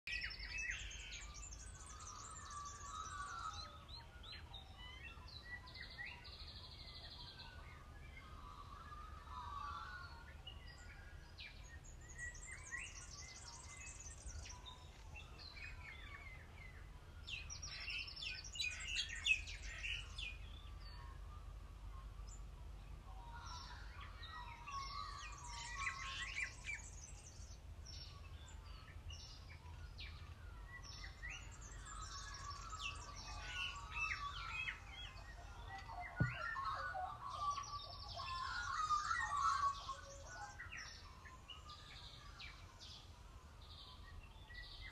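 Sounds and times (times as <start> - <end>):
birds chirping and warbling: 0.1 - 44.9.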